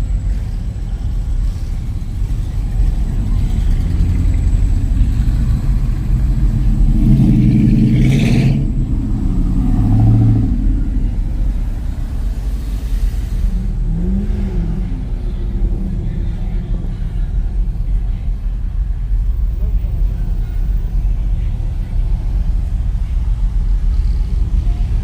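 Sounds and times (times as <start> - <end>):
car engine rumbling and revving: 0.0 - 25.0.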